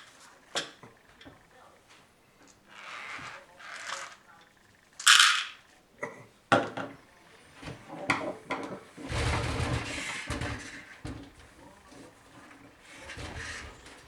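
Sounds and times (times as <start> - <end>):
rustling and rubbing: 0.0 - 4.4, 7.0 - 14.0
parts clicking and knocking: 0.0 - 14.0.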